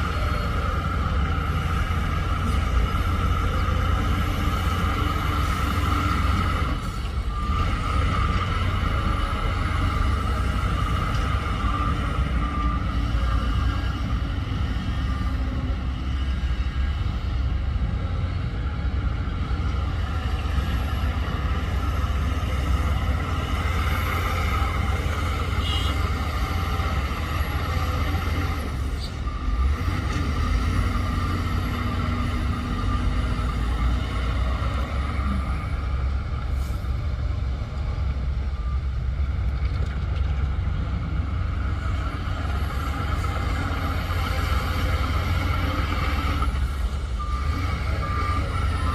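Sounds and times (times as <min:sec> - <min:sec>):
heavy diesel machinery rumbling: 0:00.0 - 0:48.9.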